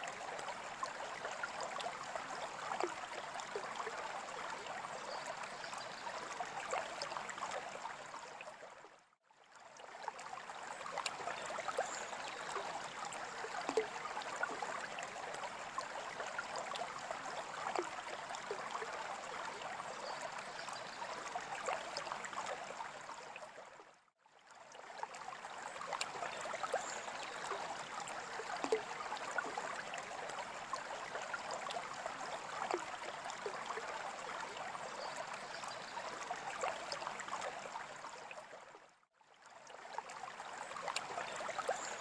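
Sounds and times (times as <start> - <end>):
water trickling and bubbling: 0.0 - 42.0.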